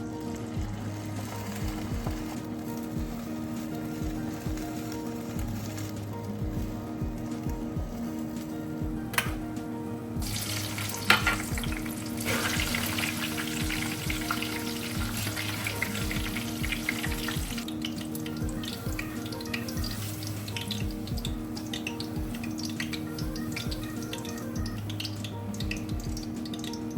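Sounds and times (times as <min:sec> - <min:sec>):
food sizzling in hot oil: 0:00.0 - 0:26.9
soft background music with beat: 0:00.0 - 0:26.9.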